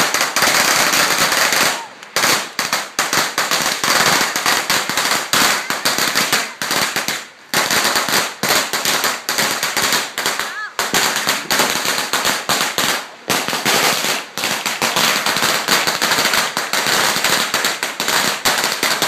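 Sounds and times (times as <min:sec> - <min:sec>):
firecrackers popping: 0:00.0 - 0:19.0.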